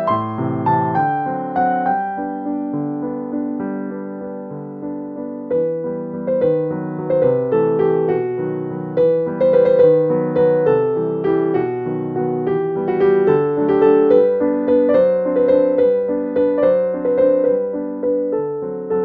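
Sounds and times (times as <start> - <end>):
piano melody: 0.0 - 19.0.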